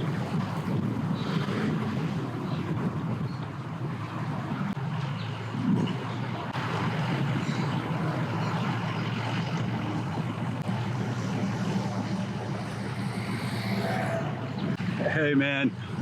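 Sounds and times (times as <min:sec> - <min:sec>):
engine running at low speed: 0:00.0 - 0:16.0.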